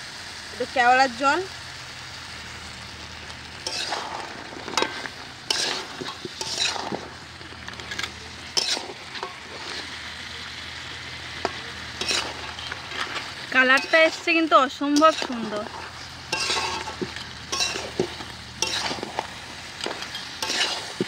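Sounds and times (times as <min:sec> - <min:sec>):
food sizzling in a metal wok: 0:00.0 - 0:21.0
metal spatula scraping wok: 0:03.4 - 0:21.0.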